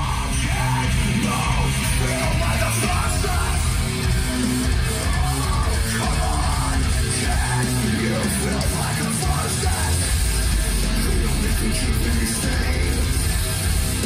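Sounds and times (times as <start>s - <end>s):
heavy metal music with electric guitars: 0.0s - 14.0s.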